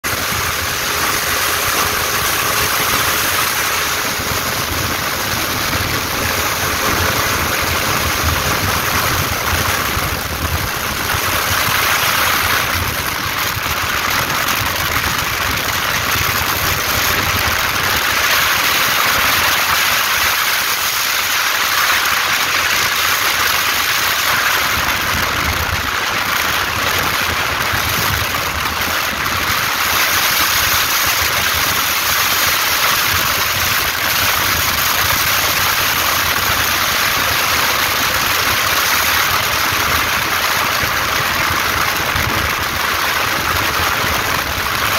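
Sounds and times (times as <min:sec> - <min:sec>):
engine running steadily: 0:00.0 - 0:44.9
wind rushing over microphone: 0:00.0 - 0:44.9.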